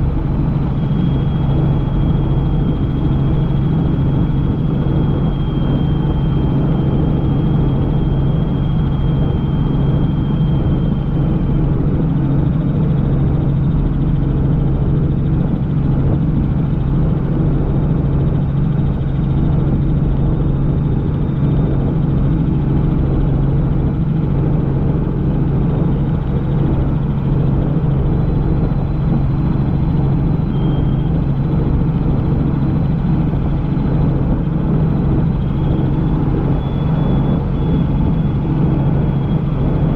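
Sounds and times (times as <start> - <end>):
faint high whine: 0.0 - 39.9
helicopter rotor and engine drone: 0.0 - 39.9.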